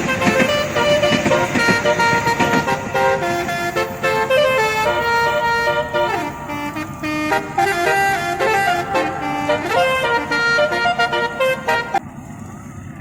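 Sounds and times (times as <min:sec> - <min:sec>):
multi-tone horn melody: 0:00.0 - 0:12.0.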